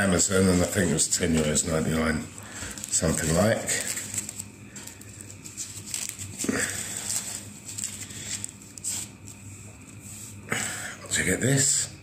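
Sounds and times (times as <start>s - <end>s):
paper wrapping rustling and crinkling: 0.4s - 10.3s.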